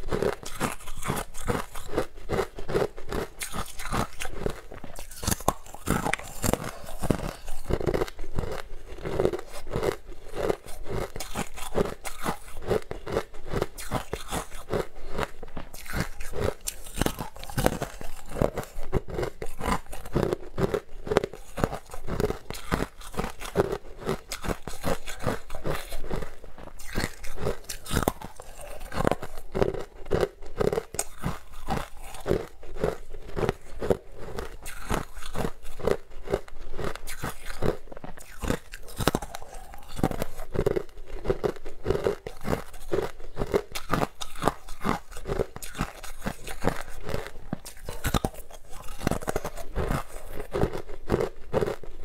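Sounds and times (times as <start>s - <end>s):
crunching and chewing sweet: 0.0s - 52.0s.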